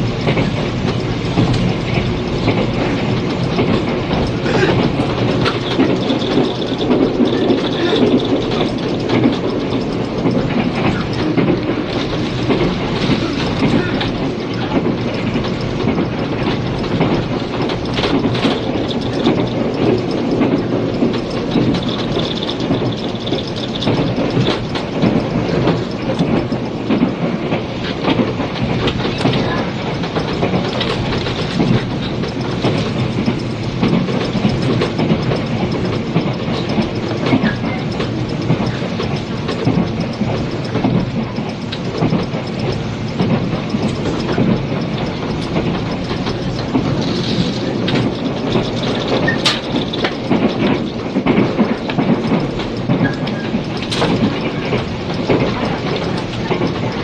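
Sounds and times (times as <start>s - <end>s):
train rumble: 0.0s - 57.0s
wheels clicking over rail joints: 0.0s - 57.0s.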